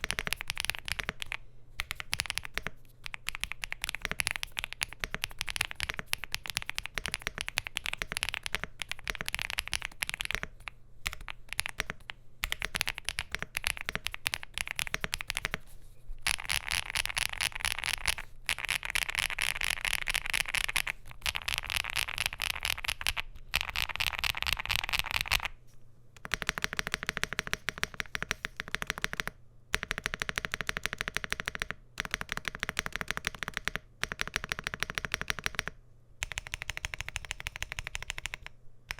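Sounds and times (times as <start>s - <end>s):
mechanical keyboard typing: 0.0s - 15.6s, 16.2s - 25.5s, 26.2s - 38.9s.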